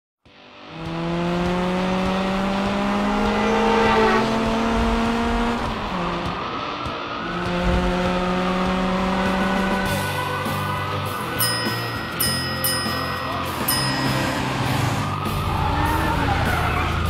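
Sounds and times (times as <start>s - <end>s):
race car engine accelerating: 0.5s - 11.4s, 13.3s - 17.0s.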